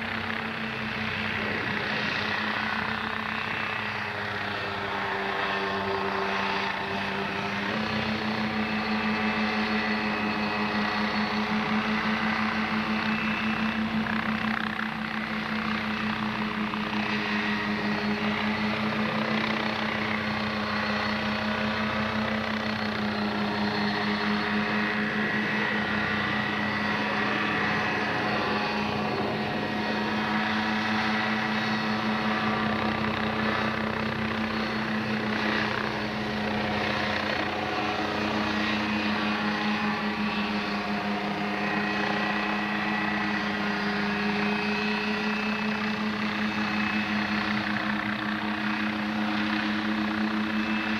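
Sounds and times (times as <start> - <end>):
helicopter engine drone: 0.0 - 50.9.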